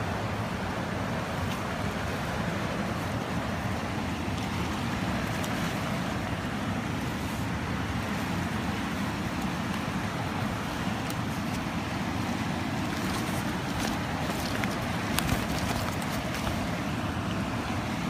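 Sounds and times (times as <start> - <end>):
river flowing over stones: 0.0 - 18.0.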